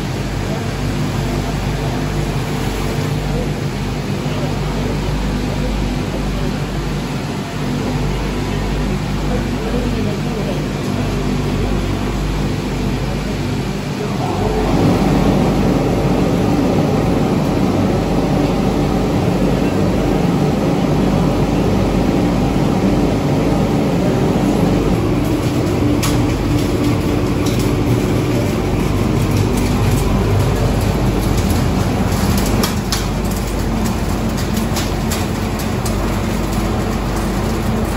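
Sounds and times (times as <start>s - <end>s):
mill machinery humming: 0.0s - 37.9s.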